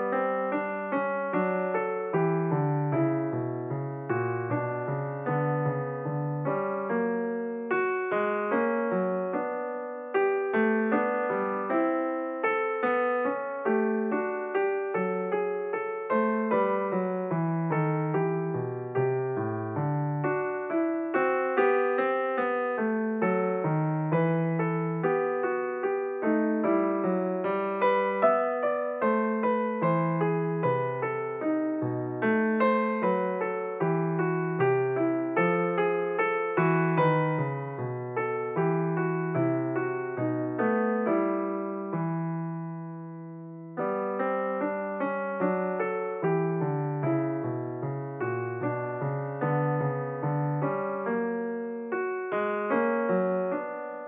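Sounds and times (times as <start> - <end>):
solo piano music: 0.0 - 54.0.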